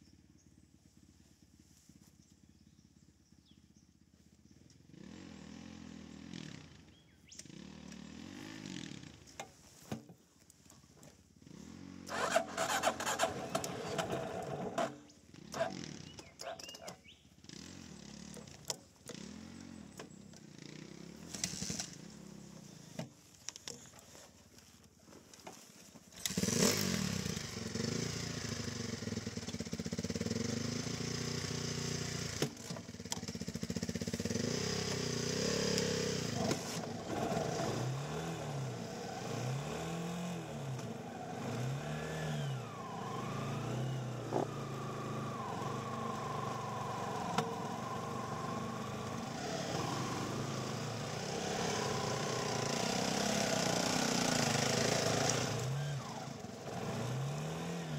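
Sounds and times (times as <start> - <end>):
dirt bike engine: 0.0 - 57.9
quad bike engine revving: 4.8 - 9.5, 11.4 - 23.0, 26.2 - 57.9.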